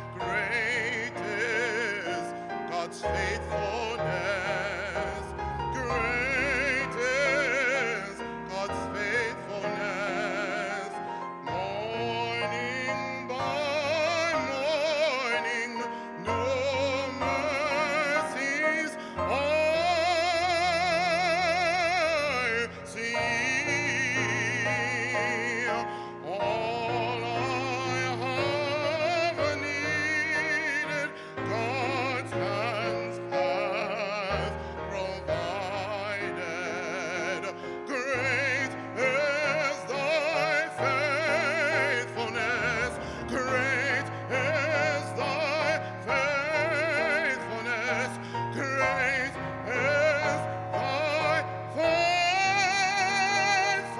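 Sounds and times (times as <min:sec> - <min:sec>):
man singing with vibrato: 0:00.0 - 0:53.9.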